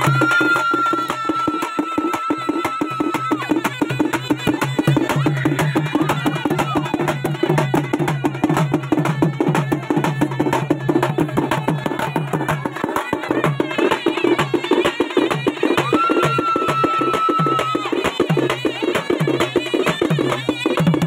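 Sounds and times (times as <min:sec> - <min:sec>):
drum band playing fast rhythm: 0:00.0 - 0:21.0.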